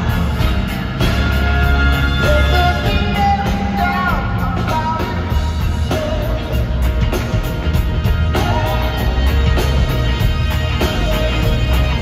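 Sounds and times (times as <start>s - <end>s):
live rock band with horns: 0.0s - 12.0s.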